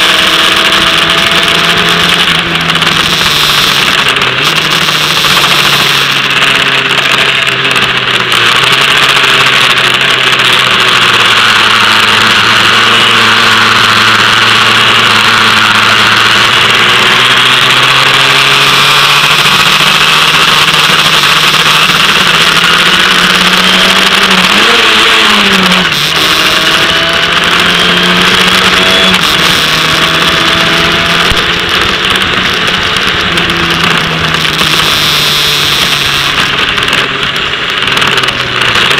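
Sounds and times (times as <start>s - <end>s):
racing car engine running: 0.0s - 38.9s.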